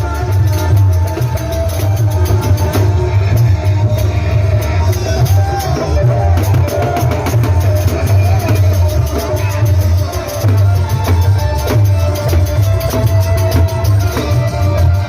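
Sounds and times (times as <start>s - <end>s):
loud amplified band music: 0.0s - 15.0s.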